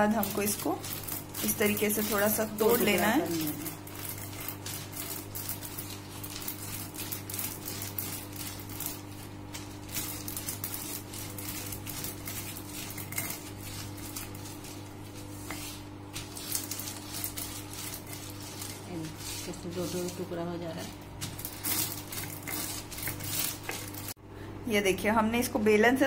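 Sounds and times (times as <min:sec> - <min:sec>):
paper rustling: 0:00.0 - 0:20.4, 0:21.2 - 0:24.2
rolling pin cracking seeds: 0:00.0 - 0:20.4, 0:21.1 - 0:24.2.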